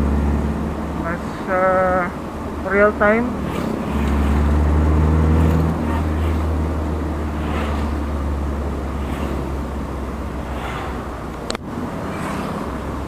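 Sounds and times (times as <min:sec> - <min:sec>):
car engine running under throttle: 0:00.0 - 0:13.0.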